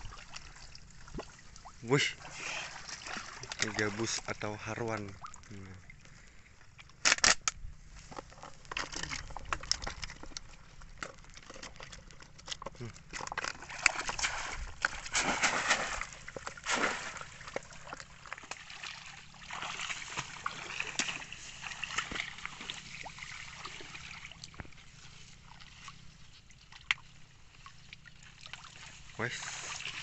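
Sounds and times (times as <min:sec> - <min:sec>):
water sloshing from wading: 0:00.0 - 0:30.0.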